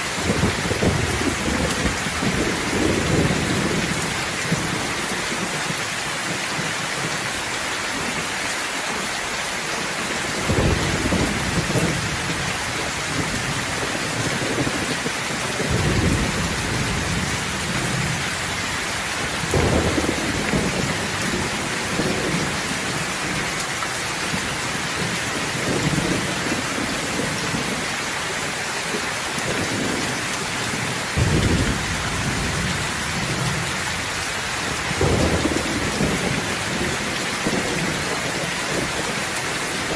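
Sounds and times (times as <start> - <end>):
heavy rain falling: 0.0 - 39.9
thunder rumbling: 0.1 - 7.2, 10.4 - 27.9, 29.4 - 39.9.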